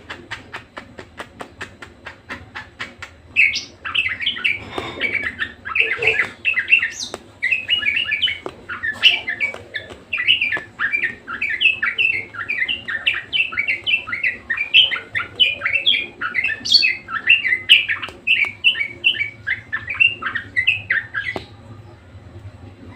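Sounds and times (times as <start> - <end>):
budgerigar chirping: 2.2 - 21.5.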